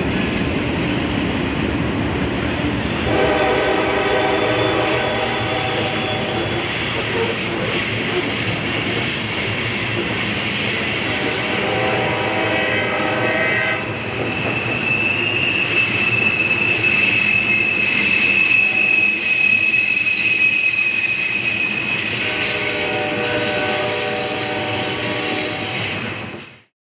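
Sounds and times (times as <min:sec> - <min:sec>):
freight train rolling past: 0:00.0 - 0:26.7
train wheels squealing: 0:04.1 - 0:26.7.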